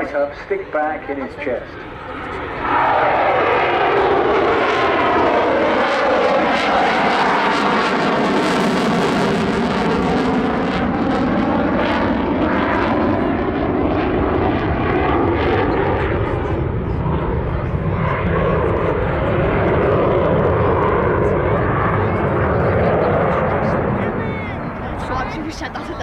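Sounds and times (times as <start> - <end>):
jet engines running loud: 0.0 - 26.0.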